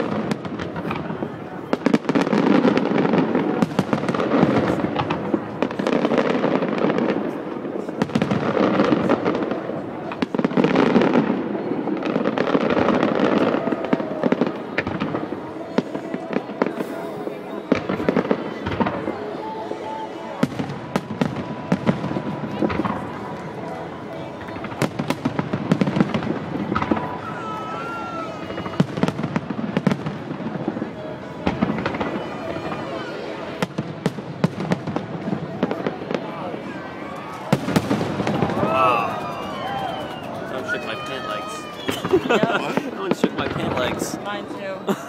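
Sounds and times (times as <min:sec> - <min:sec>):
fireworks crackling and banging: 0:00.0 - 0:45.0.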